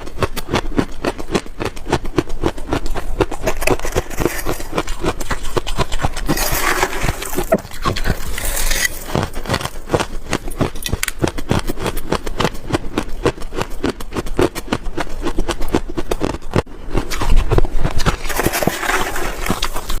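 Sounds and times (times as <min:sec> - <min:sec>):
mouth crunching ice: 0:00.0 - 0:20.0.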